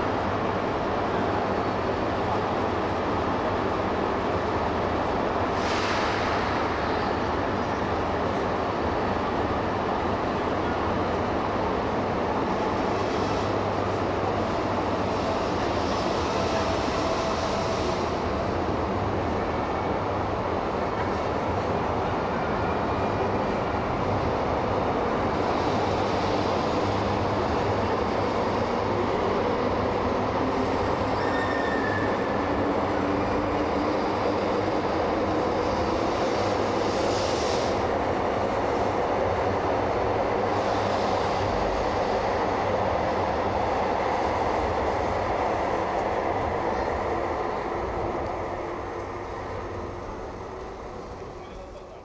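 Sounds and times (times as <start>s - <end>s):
high-speed train passing: 0.0s - 52.0s
rumble of train wheels: 0.0s - 52.0s.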